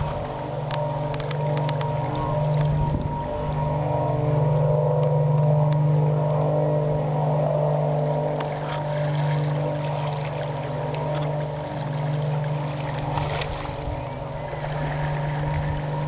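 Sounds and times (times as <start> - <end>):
blimp engines and propellers humming: 0.0 - 16.0.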